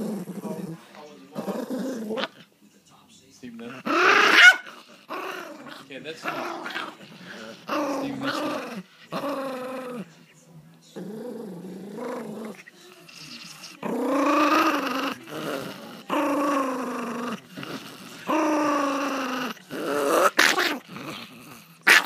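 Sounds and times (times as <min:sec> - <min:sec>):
small dog growling: 0:00.0 - 0:02.5, 0:03.6 - 0:10.1, 0:10.9 - 0:22.0.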